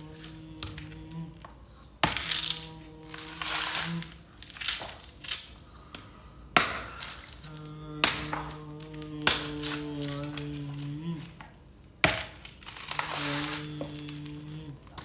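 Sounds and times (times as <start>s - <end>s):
chilies rustling and crunching: 0.0s - 5.8s, 6.9s - 11.4s, 12.2s - 15.0s.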